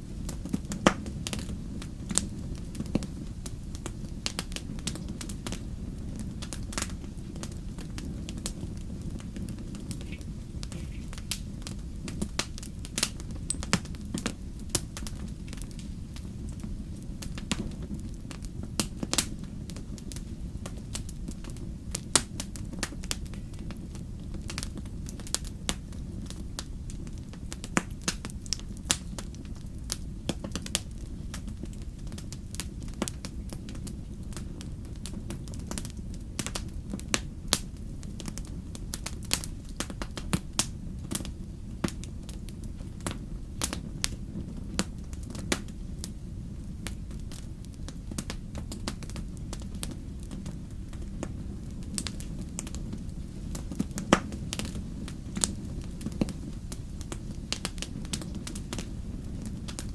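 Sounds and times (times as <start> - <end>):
low rumble of flames: 0.0 - 59.9
wood fire crackling: 0.0 - 59.9
fire pops: 0.1 - 59.9.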